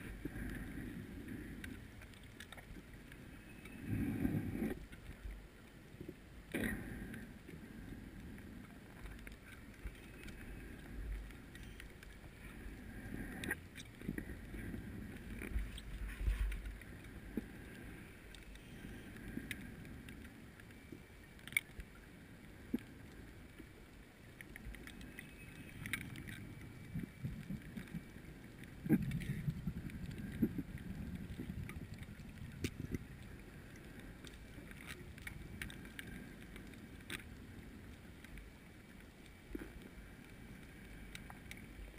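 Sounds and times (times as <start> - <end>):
low underwater rumble: 0.0 - 41.9.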